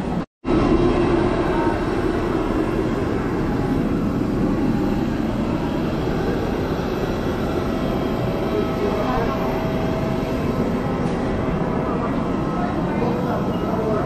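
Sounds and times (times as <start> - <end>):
aircraft engines rumbling: 0.0 - 14.0.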